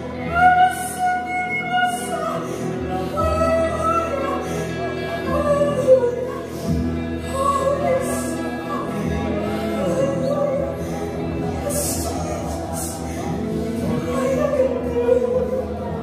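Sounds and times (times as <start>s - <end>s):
live band guitars and drums: 0.0s - 16.0s
women singing worship song: 0.2s - 16.0s.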